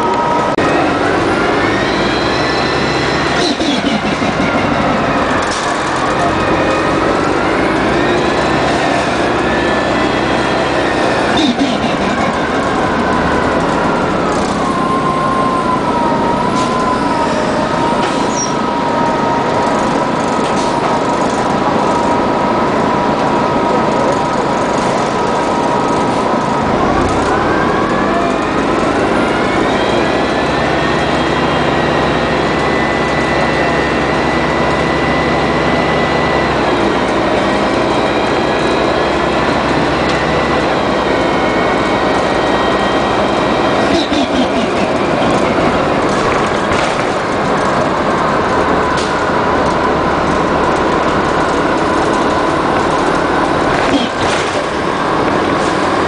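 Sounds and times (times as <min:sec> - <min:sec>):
bus engine rumble: 0:00.0 - 0:56.0
bus transmission whine: 0:00.0 - 0:56.0.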